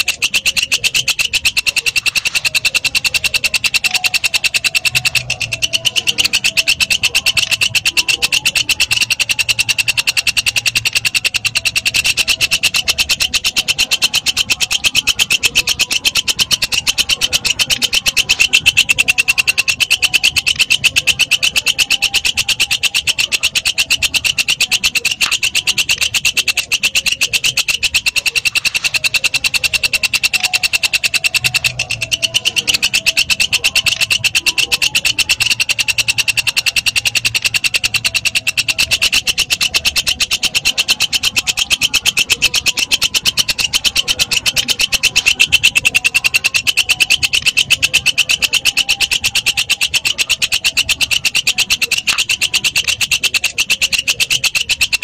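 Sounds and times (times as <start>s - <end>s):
bush cricket trilling: 0.0s - 55.0s.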